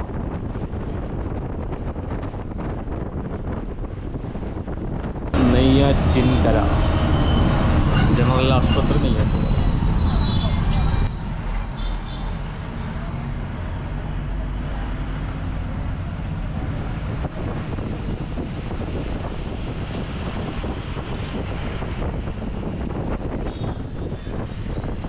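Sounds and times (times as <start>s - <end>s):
bus engine and road noise: 0.0s - 25.0s.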